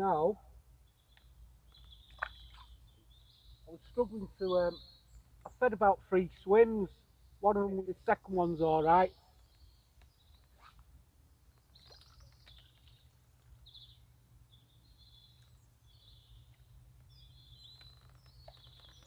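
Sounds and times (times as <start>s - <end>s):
faint bird chirps and trills: 0.0s - 19.0s
low steady hum: 0.0s - 19.0s.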